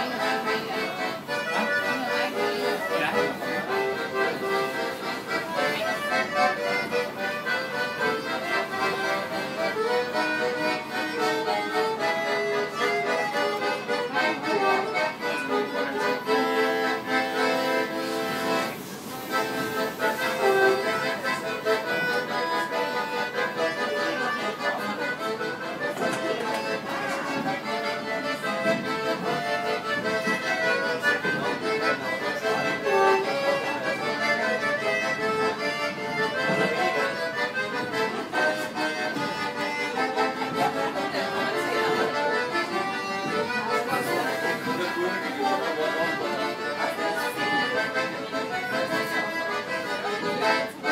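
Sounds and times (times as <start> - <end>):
accordion tune: 0.0 - 50.9.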